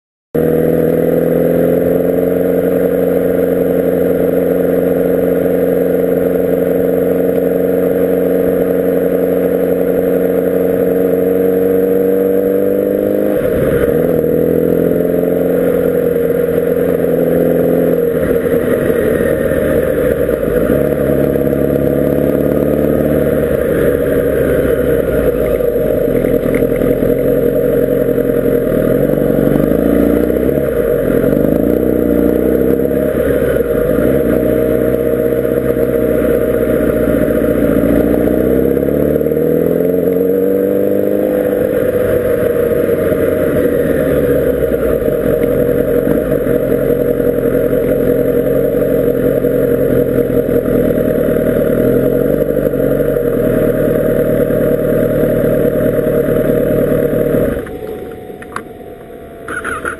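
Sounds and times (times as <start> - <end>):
motorcycle engine cruising: 0.4 - 59.9.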